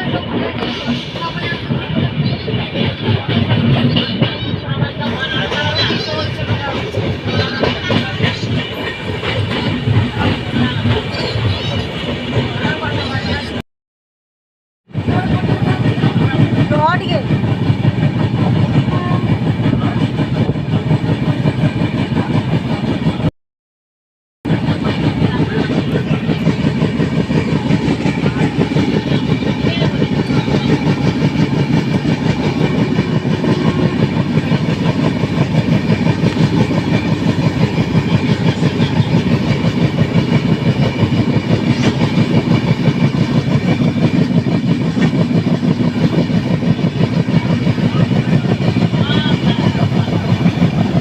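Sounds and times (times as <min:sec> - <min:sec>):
train rumbling past: 0:00.0 - 0:13.6, 0:14.9 - 0:23.3, 0:24.5 - 0:51.0.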